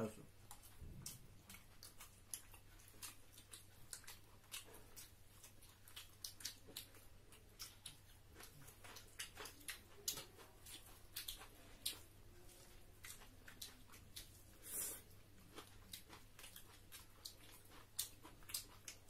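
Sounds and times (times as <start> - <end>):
chewing clicks and smacks: 0.3 - 19.0.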